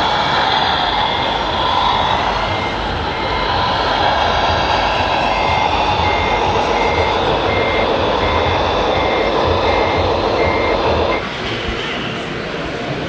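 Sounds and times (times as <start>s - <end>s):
high reversing beeper: 0.0s - 11.3s.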